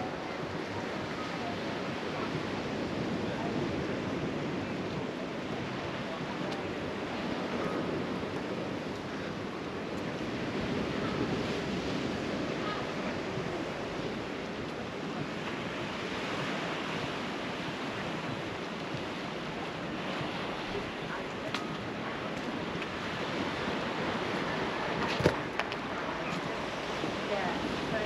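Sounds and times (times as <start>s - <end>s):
sea waves washing onto shore: 0.0s - 28.0s.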